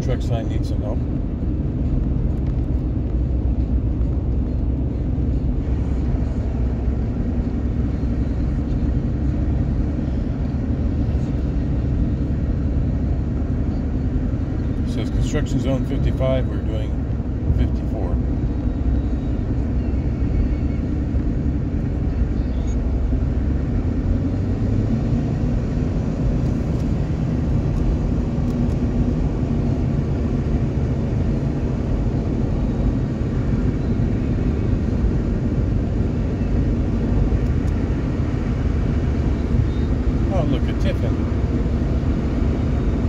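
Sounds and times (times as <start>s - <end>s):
car road and engine noise: 0.0s - 43.0s.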